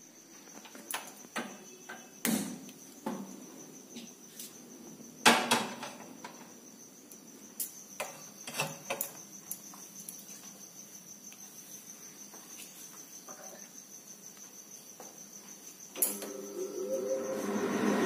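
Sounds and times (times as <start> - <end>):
cricket trill: 0.0 - 18.0.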